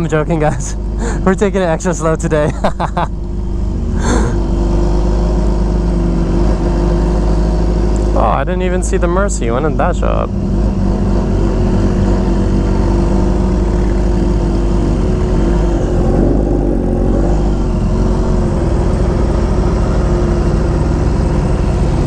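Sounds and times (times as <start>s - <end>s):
motorcycle engine: 0.0s - 22.0s
vehicle engines running: 0.0s - 22.0s.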